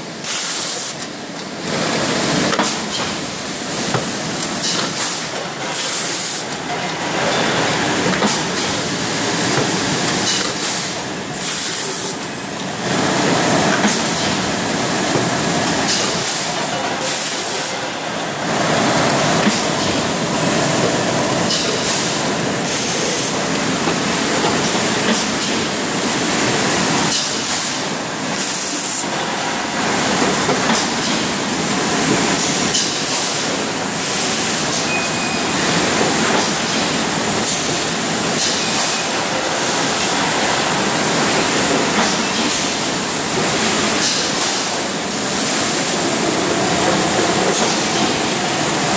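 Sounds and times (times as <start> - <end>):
rush of air and machine noise: 0.0 - 48.9.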